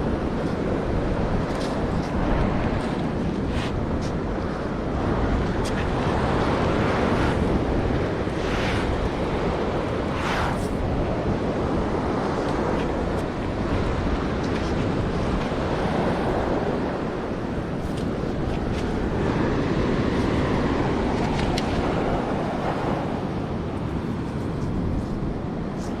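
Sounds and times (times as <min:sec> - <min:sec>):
surf washing on beach: 0:00.0 - 0:26.0
wind on microphone: 0:00.0 - 0:26.0.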